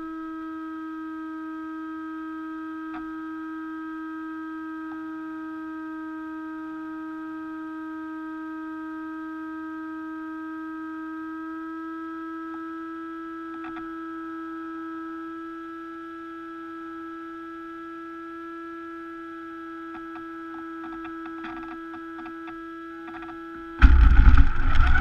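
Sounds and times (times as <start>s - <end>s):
electronic whine: 0.0s - 25.0s.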